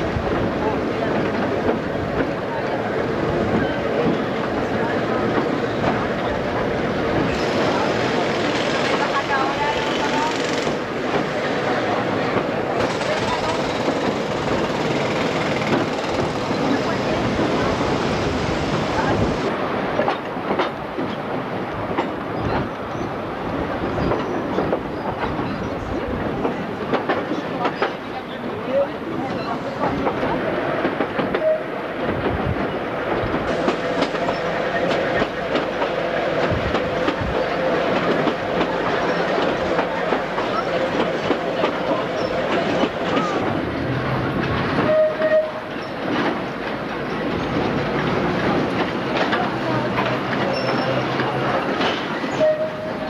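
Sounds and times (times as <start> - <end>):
tram rumbling: 0.0 - 53.0
wheels clacking on rails: 0.0 - 53.0.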